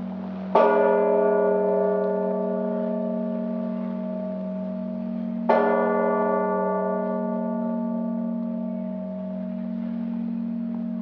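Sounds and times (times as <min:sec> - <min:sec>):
large church bell ringing: 0:00.0 - 0:11.0.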